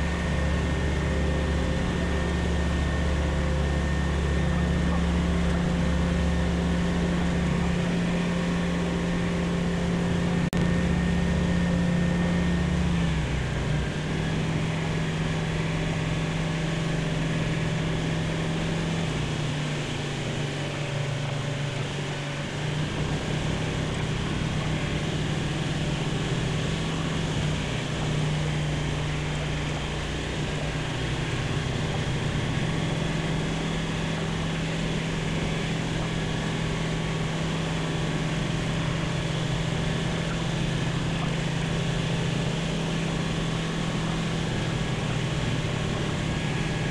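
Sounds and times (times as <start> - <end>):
propeller plane engine droning: 0.0 - 46.9.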